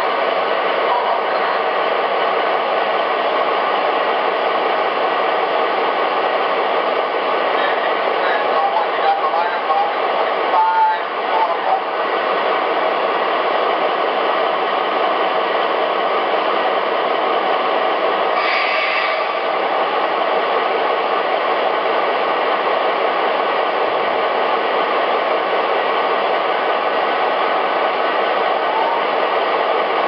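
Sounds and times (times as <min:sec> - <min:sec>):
model train diesel idle sound: 0:00.0 - 0:30.0.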